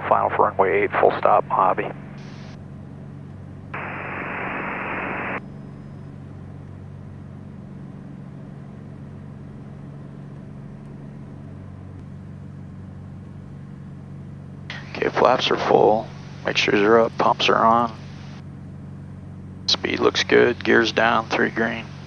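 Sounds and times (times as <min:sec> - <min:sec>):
propeller engines droning: 0:00.0 - 0:22.0.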